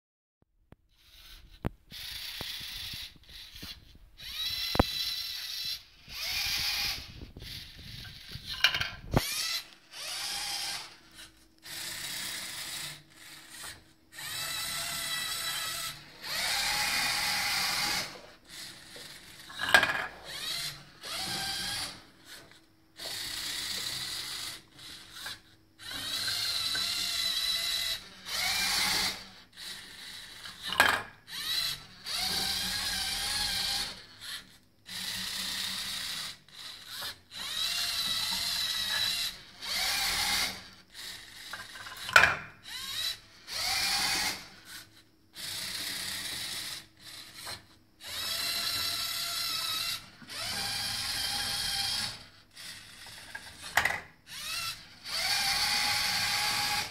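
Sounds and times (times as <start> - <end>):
electric motors whining: 0.9 - 56.9.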